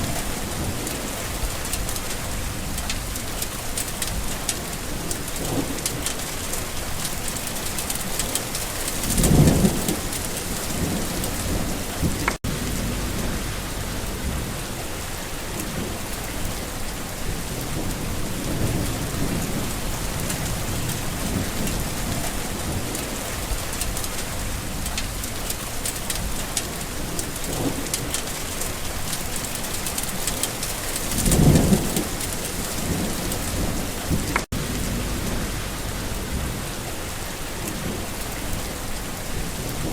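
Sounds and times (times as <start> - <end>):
distant thunder rumble: 0.0 - 39.9
rain pattering: 0.0 - 39.9.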